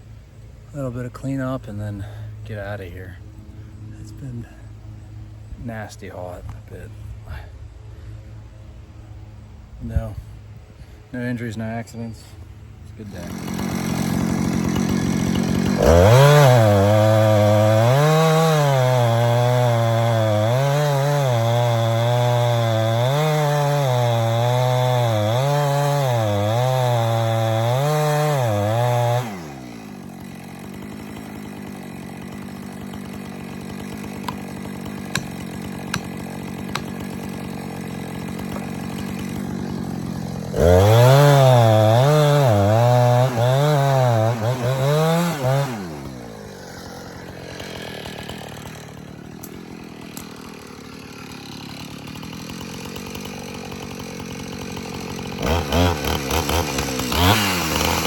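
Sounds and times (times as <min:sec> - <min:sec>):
chainsaw cutting wood: 0:10.9 - 0:58.0.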